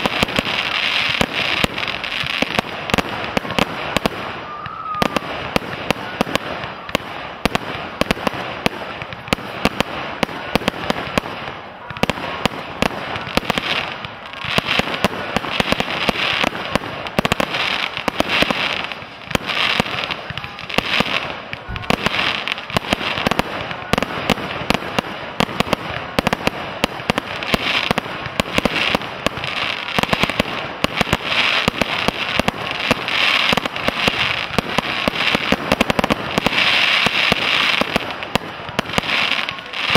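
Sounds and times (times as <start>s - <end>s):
fireworks bangs and pops: 0.0s - 39.9s
fireworks crackling: 0.0s - 39.9s.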